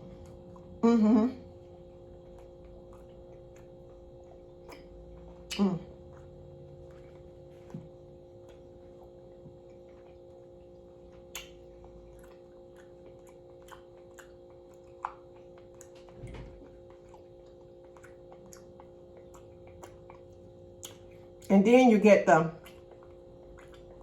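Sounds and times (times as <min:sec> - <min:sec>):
person chewing crunchy food: 0:00.0 - 0:00.8, 0:01.5 - 0:21.5, 0:22.6 - 0:24.0
steady low hum: 0:00.0 - 0:24.0.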